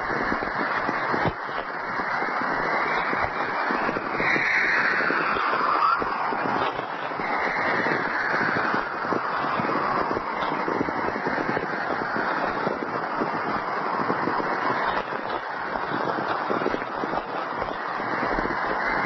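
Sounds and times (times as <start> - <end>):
crackling radio static: 0.0 - 19.0
descending whistling tones: 0.0 - 19.0.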